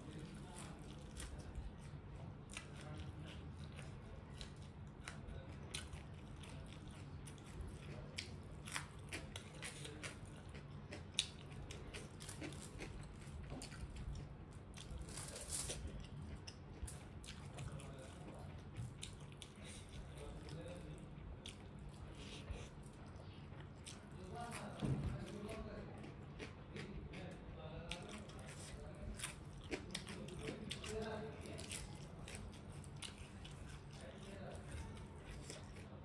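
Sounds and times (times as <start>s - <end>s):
chewing and wet mouth noises: 0.0s - 36.0s.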